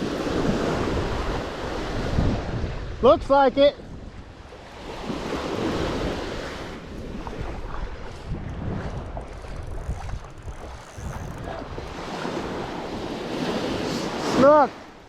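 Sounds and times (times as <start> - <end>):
surf washing onto beach: 0.0 - 3.0, 4.0 - 15.0
wind buffeting microphone: 0.0 - 14.5.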